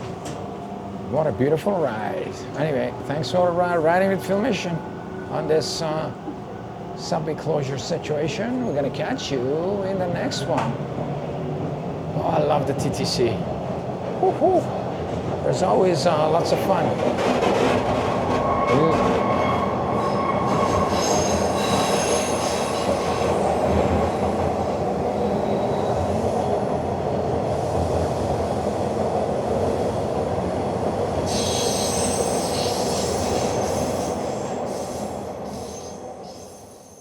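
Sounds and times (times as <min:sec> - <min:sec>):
subway train rumble: 0:00.0 - 0:37.0.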